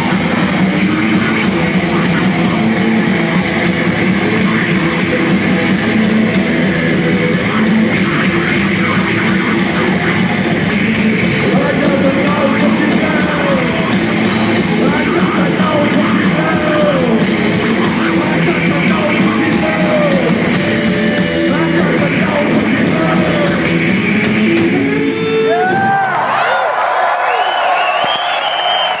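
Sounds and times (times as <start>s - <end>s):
electric guitar: 0.0s - 26.3s
drums: 0.0s - 29.0s.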